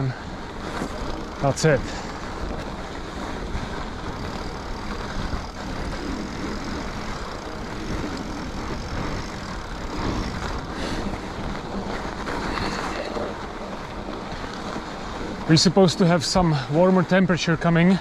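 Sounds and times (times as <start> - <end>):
wind on microphone: 0.0 - 15.8
bike tyres on packed snow: 0.0 - 18.0.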